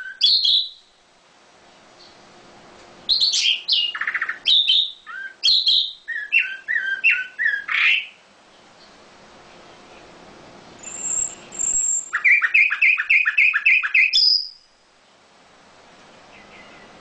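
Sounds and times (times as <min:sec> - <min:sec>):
songbird singing: 0:00.0 - 0:02.3, 0:02.9 - 0:17.0.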